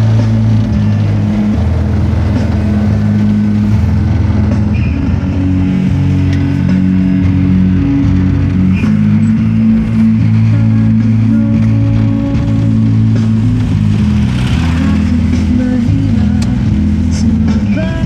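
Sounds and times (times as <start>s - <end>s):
bass line in held notes: 0.0s - 18.0s
car engine: 0.0s - 18.0s
pop song on car radio: 0.0s - 18.0s
road noise: 0.0s - 18.0s.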